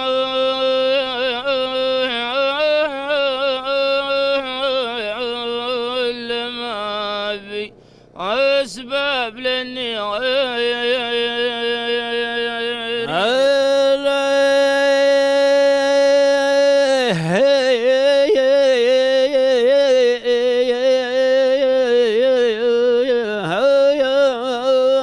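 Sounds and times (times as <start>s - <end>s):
man singing: 0.0s - 25.0s.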